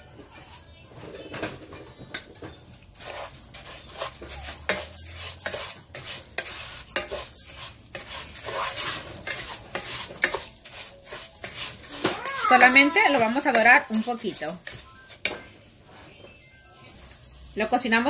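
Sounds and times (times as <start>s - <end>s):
rice sizzling: 0.0s - 18.0s
spoon stirring rice in pot: 0.4s - 16.4s.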